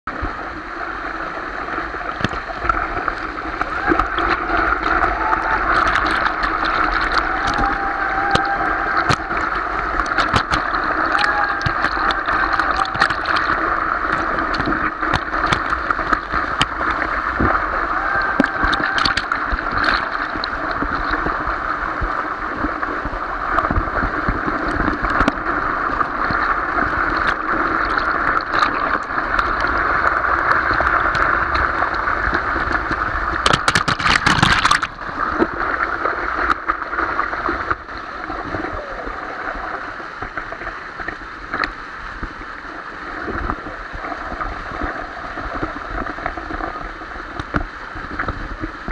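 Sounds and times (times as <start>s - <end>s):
water splashing: 0.1s - 48.9s
waterfall rushing onto microphone: 0.1s - 48.9s.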